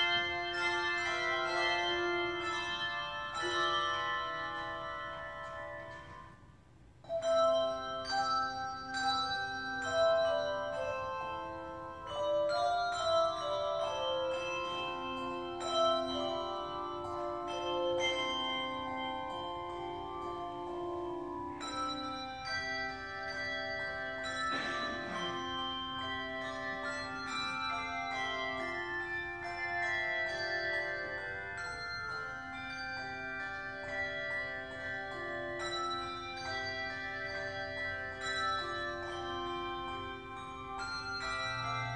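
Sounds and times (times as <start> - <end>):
handbell choir ringing: 0.0 - 6.4, 7.0 - 41.9.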